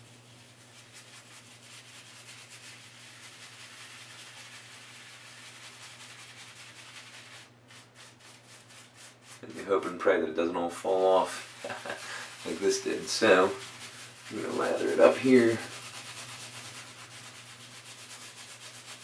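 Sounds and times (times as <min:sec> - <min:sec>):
shaving brush swishing on skin: 0:00.0 - 0:10.1, 0:10.8 - 0:19.0.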